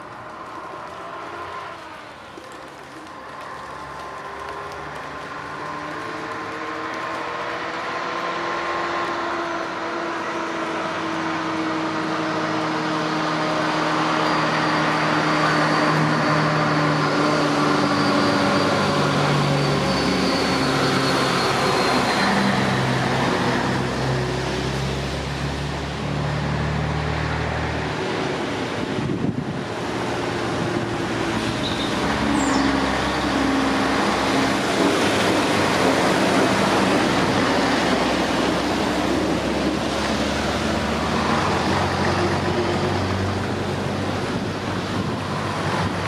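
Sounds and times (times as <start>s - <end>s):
truck engines approaching: 0.0s - 46.0s.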